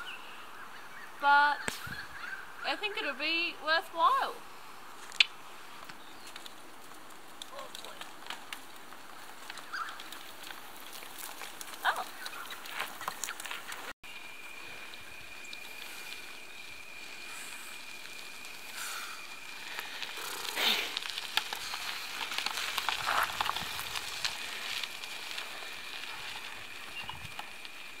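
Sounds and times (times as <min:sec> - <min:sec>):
bicycle tyres crunching on gravel: 0:04.0 - 0:28.0.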